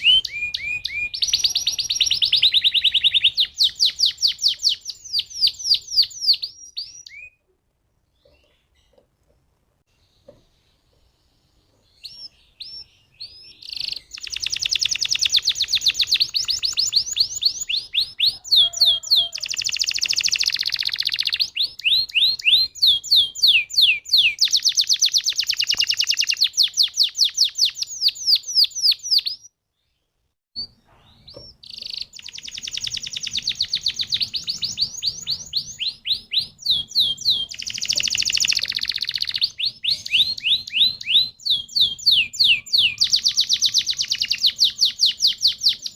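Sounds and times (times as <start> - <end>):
canary singing trills: 0.0 - 7.4, 10.0 - 29.5, 30.6 - 45.9.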